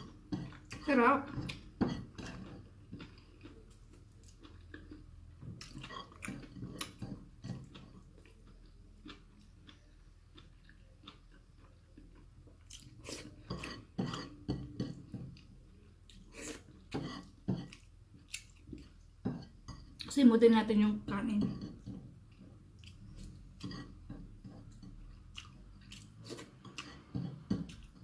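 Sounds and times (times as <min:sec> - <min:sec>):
person chewing food: 0:00.0 - 0:20.1, 0:21.7 - 0:28.0.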